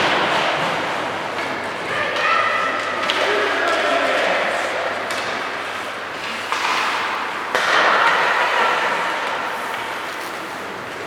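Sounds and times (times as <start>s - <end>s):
ice hockey game noise in a rink: 0.0s - 11.0s.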